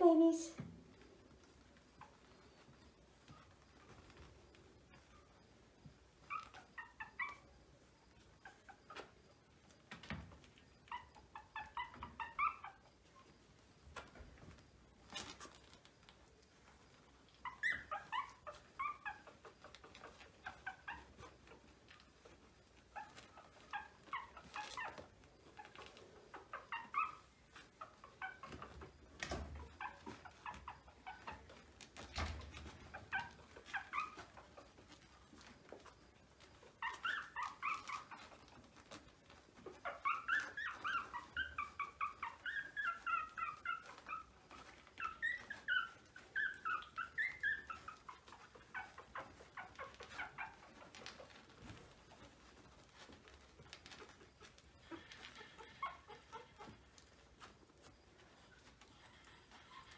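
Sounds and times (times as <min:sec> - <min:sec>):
puppies whimpering and squeaking: 0:00.0 - 0:59.9.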